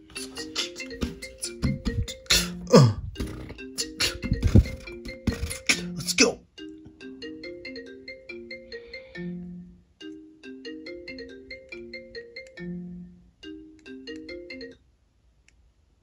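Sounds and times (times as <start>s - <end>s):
bright background music melody: 0.0s - 14.8s.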